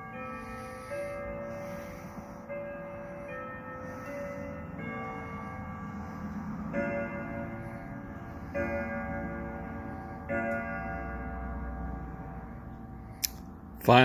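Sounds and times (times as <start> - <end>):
clock chime tune: 0.0 - 12.2.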